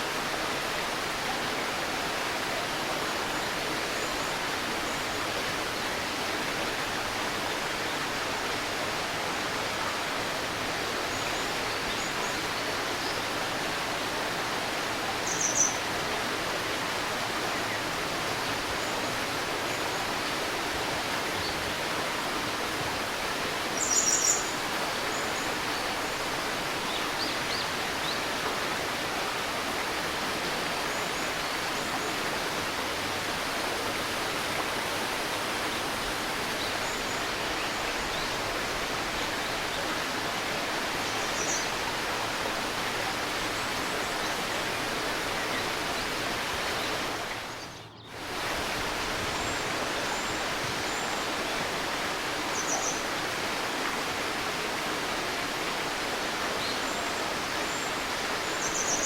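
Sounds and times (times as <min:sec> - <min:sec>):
stream murmuring: 0:00.0 - 0:59.0.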